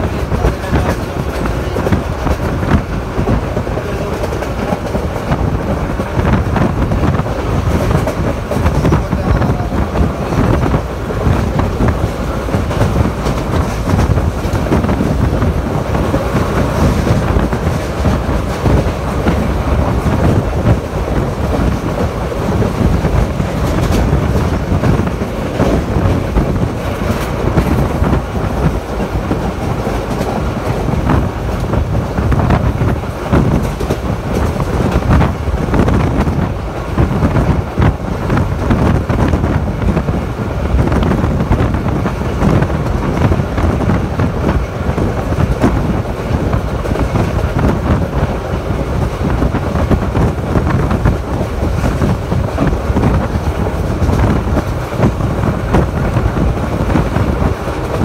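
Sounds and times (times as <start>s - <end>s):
train wheels rumbling on rail: 0.0s - 58.0s
wind rushing past: 0.0s - 58.0s.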